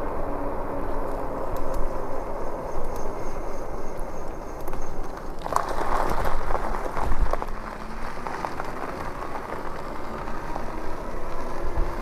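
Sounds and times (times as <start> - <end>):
bike tyres rolling over gravel: 0.1 - 12.0.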